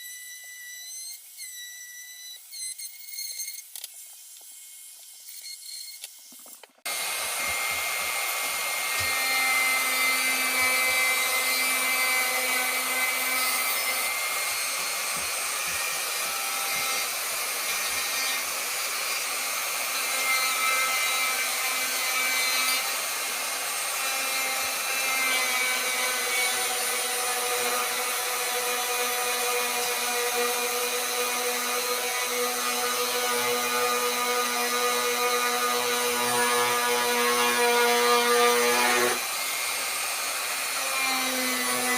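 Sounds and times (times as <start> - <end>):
rotary tool cutting into wood: 0.0 - 41.9.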